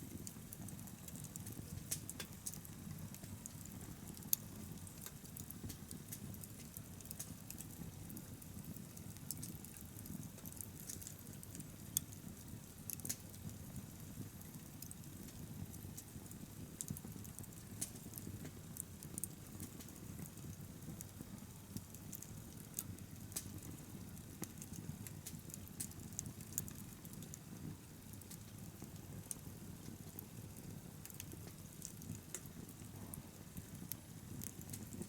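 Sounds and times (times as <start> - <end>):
low rumble of fire: 0.0 - 35.0
bonfire crackling and popping: 0.1 - 35.0.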